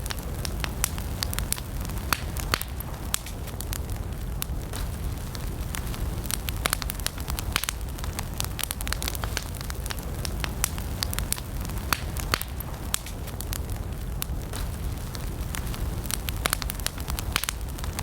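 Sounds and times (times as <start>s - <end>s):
campfire crackling and popping: 0.0s - 18.0s
low fire rumble: 0.0s - 18.0s.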